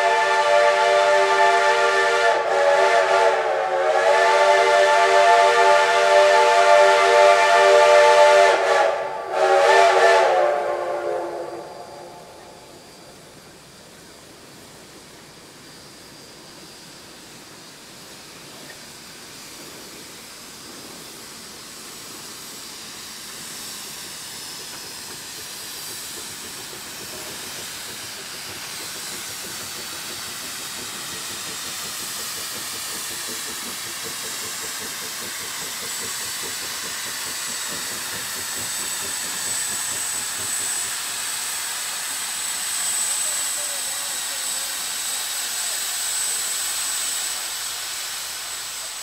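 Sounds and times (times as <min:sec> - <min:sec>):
steam locomotives hissing: 0:00.0 - 0:49.0.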